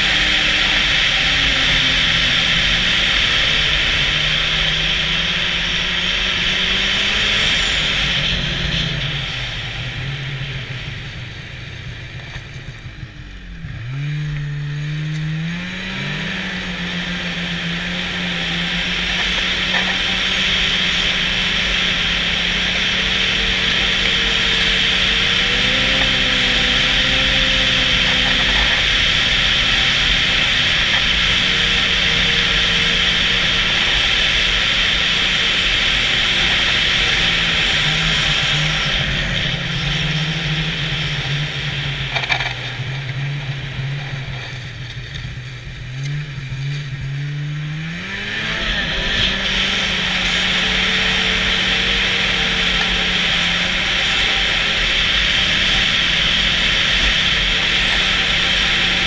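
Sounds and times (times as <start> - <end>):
snowmobile engine and track noise: 0.0 - 59.0.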